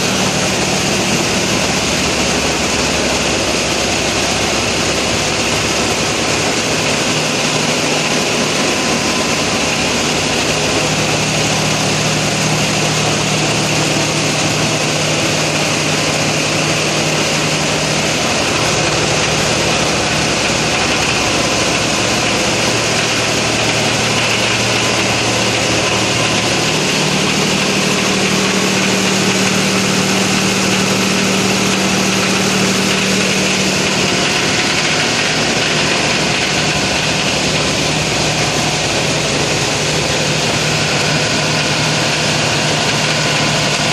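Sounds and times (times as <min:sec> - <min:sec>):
diesel engines running: 0:00.0 - 0:43.9.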